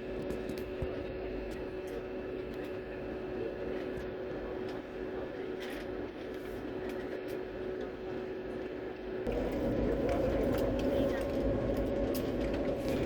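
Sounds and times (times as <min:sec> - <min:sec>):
jet engines humming in cabin: 0:00.0 - 0:13.0.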